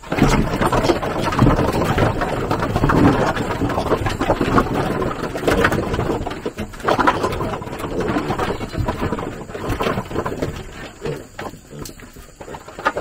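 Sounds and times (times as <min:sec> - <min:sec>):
pigs grunting: 0:00.0 - 0:13.0.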